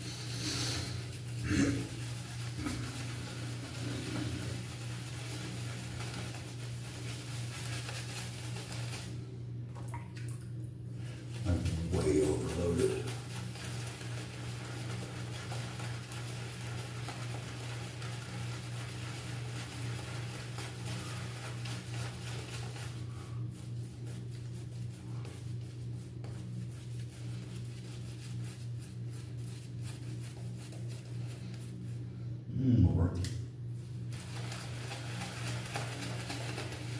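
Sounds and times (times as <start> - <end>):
shaving brush scrubbing face: 0.0 - 9.4, 10.9 - 32.1, 33.8 - 36.9
steady low hum: 0.0 - 36.9.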